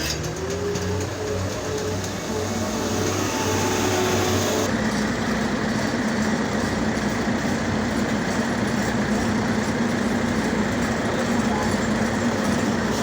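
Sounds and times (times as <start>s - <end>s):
heavy machinery rumbling: 0.0s - 13.0s.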